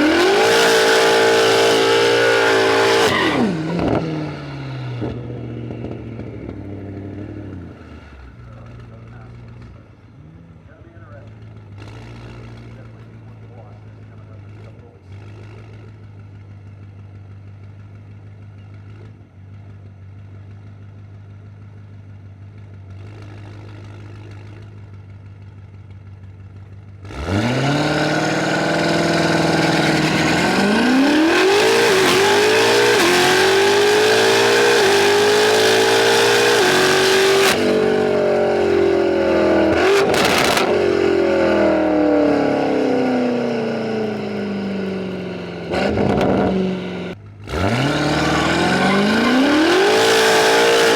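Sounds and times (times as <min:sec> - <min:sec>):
car engine idling and revving: 0:00.0 - 0:50.9.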